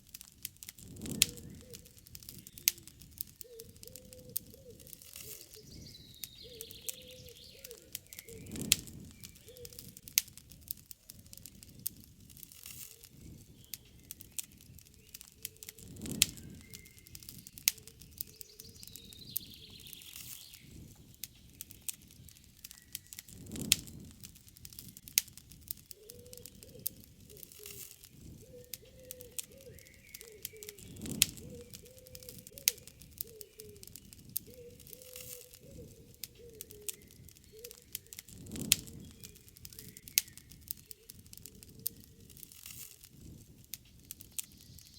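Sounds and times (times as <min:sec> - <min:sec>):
campfire crackling and popping: 0:00.0 - 0:44.9
flames rushing: 0:00.0 - 0:44.9
birds calling: 0:01.1 - 0:10.0, 0:12.8 - 0:23.6, 0:25.8 - 0:42.5.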